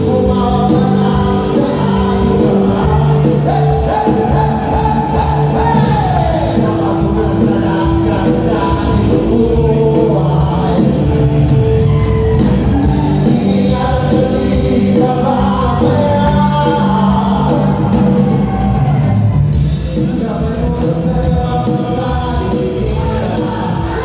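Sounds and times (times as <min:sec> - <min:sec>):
live band playing amplified music: 0:00.0 - 0:24.0
person singing: 0:00.0 - 0:24.0.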